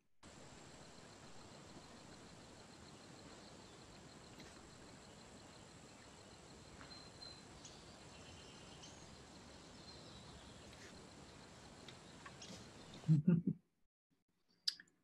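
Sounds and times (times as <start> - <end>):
faint outdoor hiss: 0.2 - 13.4.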